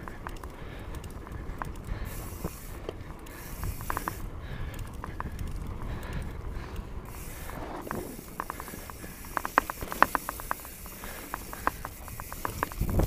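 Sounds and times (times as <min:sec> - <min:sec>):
bike clicks and rattles: 0:00.0 - 0:13.0
bike tyres hissing on gravel: 0:00.0 - 0:13.0.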